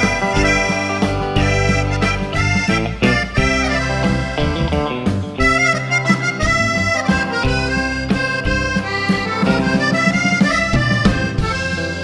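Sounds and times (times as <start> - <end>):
free-reed instrument tune: 0.0 - 12.0.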